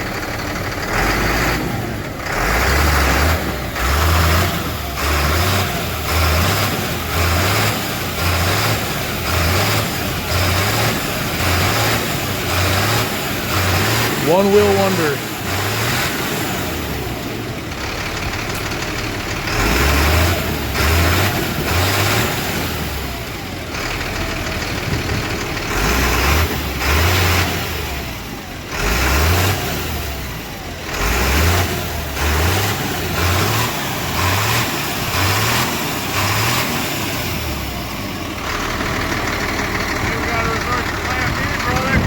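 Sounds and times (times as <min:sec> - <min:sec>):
pickup engine revving: 0:00.0 - 0:42.0.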